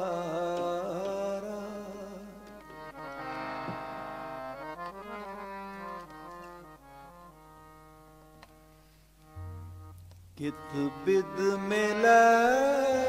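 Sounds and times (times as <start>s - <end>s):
harmonium melody: 0.0s - 13.0s.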